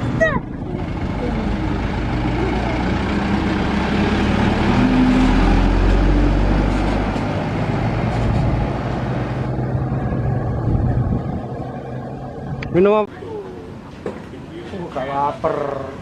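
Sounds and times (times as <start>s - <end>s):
bus diesel engine rumble: 0.0s - 14.7s.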